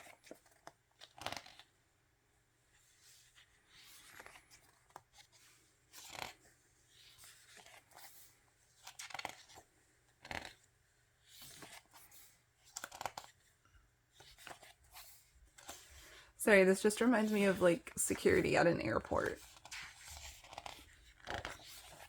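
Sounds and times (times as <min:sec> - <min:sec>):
pages turning: 0:00.0 - 0:01.7, 0:02.7 - 0:16.2, 0:19.3 - 0:22.0.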